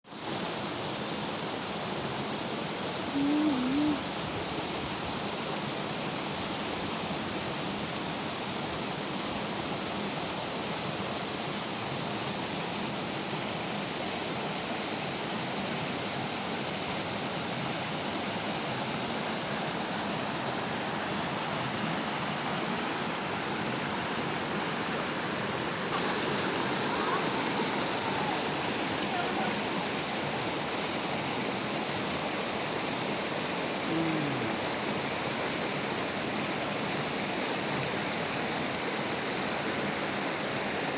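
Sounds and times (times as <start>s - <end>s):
waterfall rushing water: 0.1s - 40.9s.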